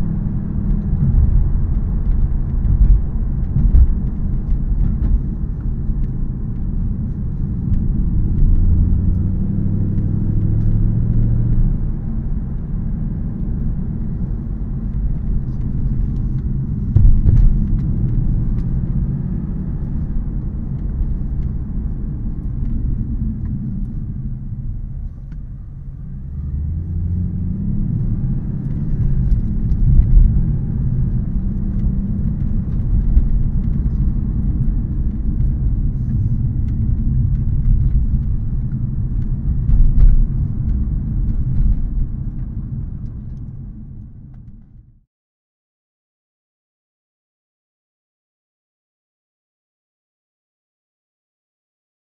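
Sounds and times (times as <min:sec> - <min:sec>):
car engine rumble: 0:00.0 - 0:45.0
road noise: 0:00.0 - 0:45.0.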